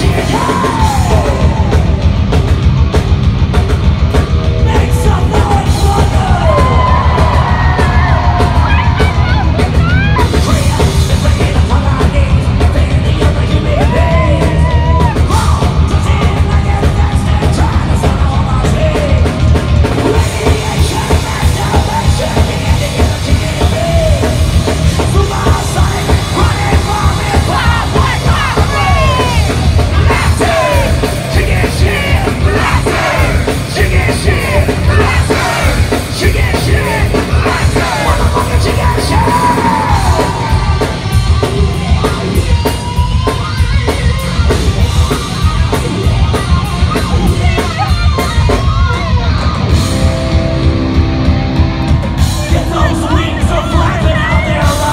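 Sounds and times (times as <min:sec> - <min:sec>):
live rock band: 0:00.0 - 0:54.9
yelled sung lead vocal: 0:00.0 - 0:54.9.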